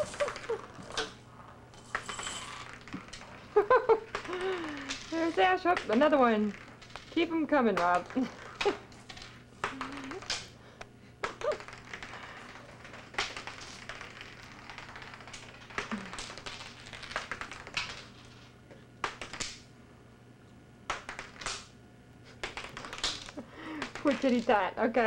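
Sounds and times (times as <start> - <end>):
small objects skittering on hard floor: 0.0 - 10.4, 11.3 - 19.5, 22.5 - 24.6
faint steady hum: 0.0 - 25.0.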